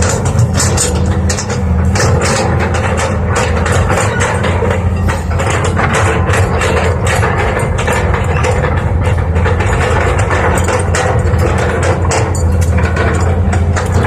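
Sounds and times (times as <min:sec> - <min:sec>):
diesel engine running: 0:00.0 - 0:14.0
metallic clanks and clicks: 0:00.0 - 0:14.0.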